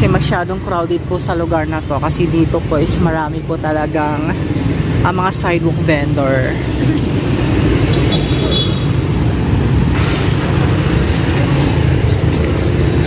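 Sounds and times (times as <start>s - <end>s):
motorcycles passing: 0.0s - 13.0s.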